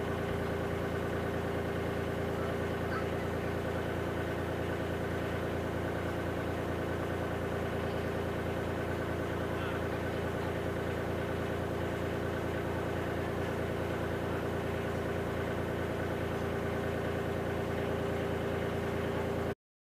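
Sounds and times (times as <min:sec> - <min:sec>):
diesel engine idling: 0:00.0 - 0:19.6.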